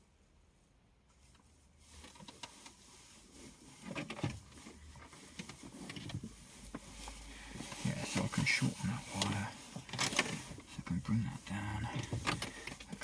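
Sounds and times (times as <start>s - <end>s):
wire rustling: 1.2s - 13.0s.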